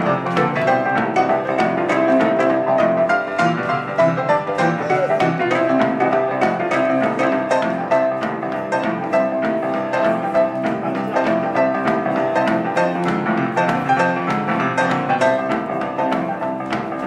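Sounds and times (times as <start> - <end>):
upright piano playing: 0.0 - 17.0.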